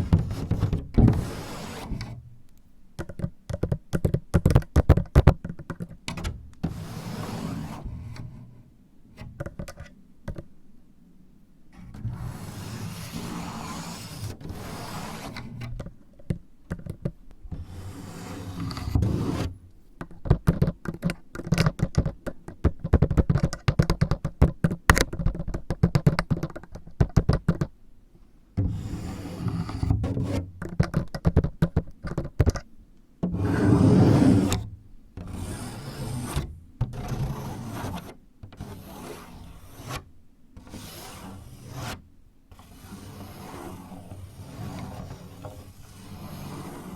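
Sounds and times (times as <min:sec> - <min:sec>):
fingertips rubbing and scraping: 0:00.0 - 0:02.2, 0:03.0 - 0:08.5, 0:11.8 - 0:27.7, 0:28.6 - 0:32.6, 0:35.2 - 0:46.9.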